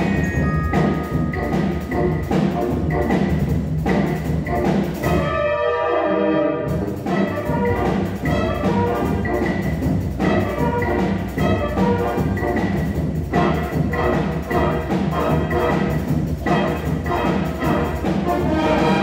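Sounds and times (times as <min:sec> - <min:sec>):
brass band with percussion: 0:00.0 - 0:19.0.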